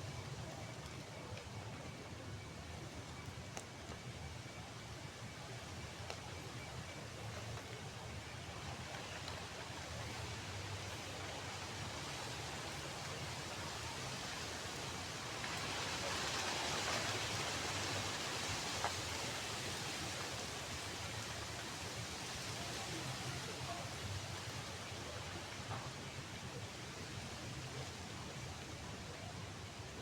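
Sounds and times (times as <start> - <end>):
campfire hissing: 0.0 - 30.0.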